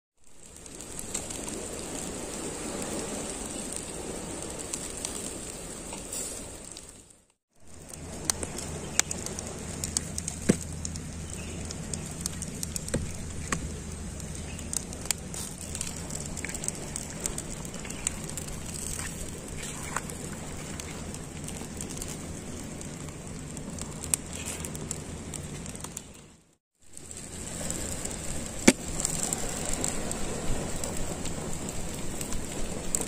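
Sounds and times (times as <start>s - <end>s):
grilling hiss: 0.2s - 26.2s, 26.9s - 33.0s
fire crackling and popping: 0.2s - 33.0s.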